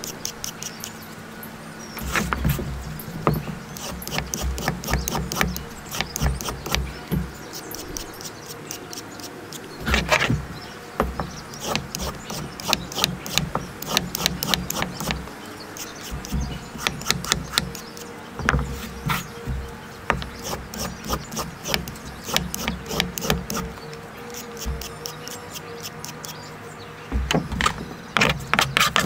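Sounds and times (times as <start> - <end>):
peeler scraping a carrot: 0.0 - 1.0, 2.0 - 26.6, 27.3 - 29.0.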